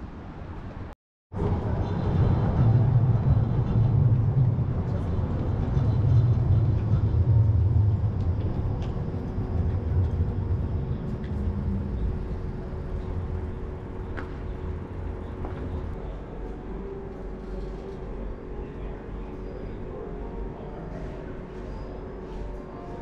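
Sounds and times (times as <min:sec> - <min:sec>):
rumble of trams and traffic: 0:00.0 - 0:23.0.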